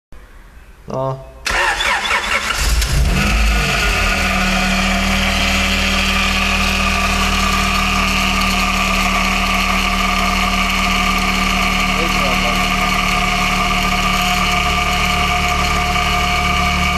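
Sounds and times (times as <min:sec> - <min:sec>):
car engine idling: 0:01.5 - 0:16.9
power steering pump whine: 0:01.5 - 0:16.9.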